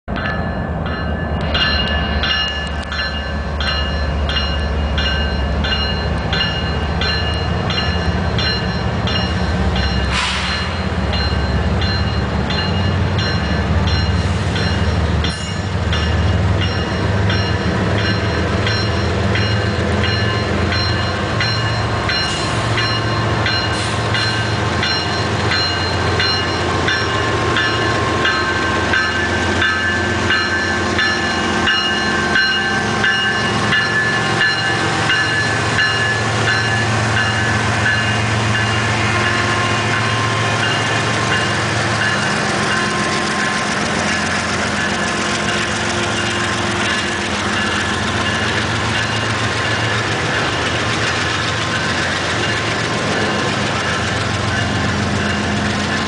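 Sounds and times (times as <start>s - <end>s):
diesel locomotive engine drone: 0.0s - 56.0s
locomotive bell ringing: 0.1s - 56.0s.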